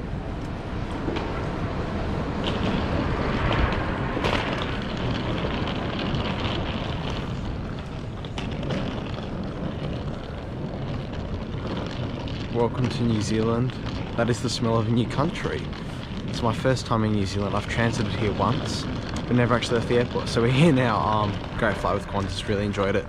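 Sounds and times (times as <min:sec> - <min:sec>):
jet aircraft rushing: 0:00.0 - 0:23.0.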